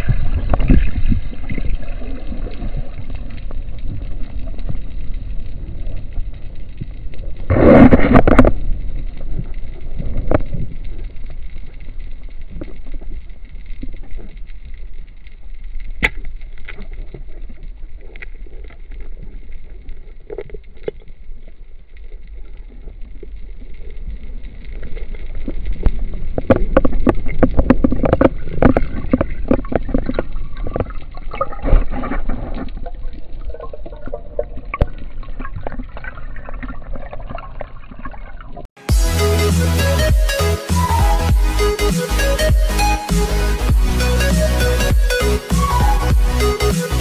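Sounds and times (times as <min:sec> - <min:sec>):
water rushing and gurgling underwater: 0:00.0 - 0:39.0.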